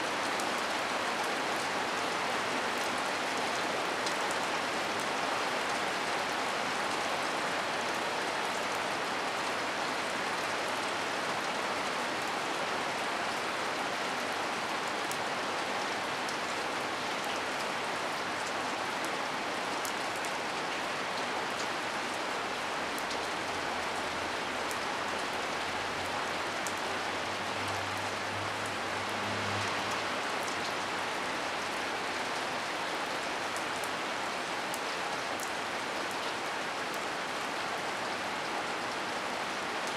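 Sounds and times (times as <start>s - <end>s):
hard rain falling: 0.0s - 39.9s.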